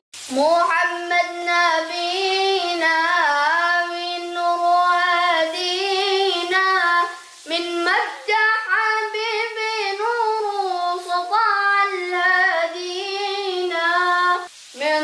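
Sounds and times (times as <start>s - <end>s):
child singing a devotional chant: 0.3s - 15.0s.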